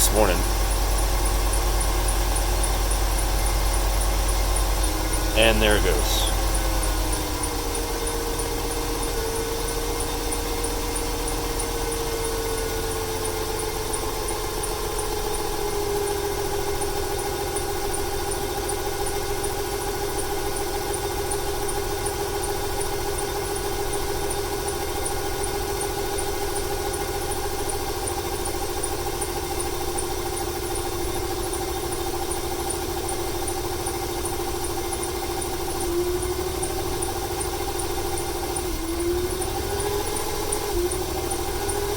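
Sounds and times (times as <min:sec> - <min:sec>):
engine idling with misfire: 0:06.5 - 0:41.9.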